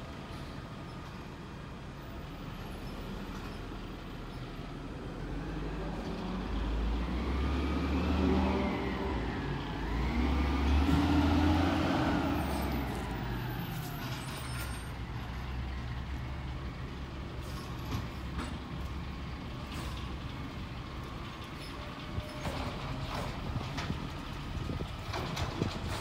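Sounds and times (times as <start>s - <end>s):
garbage truck diesel engine: 0.0s - 26.0s.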